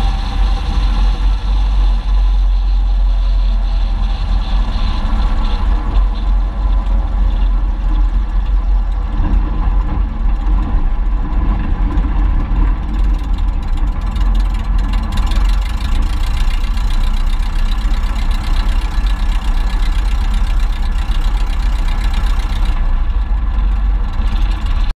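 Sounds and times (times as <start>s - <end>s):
small aircraft engine idling: 0.0s - 24.9s.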